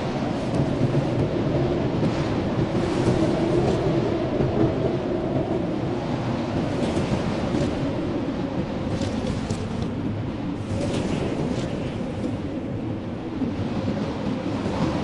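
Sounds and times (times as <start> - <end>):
wind howling: 0.0 - 15.0.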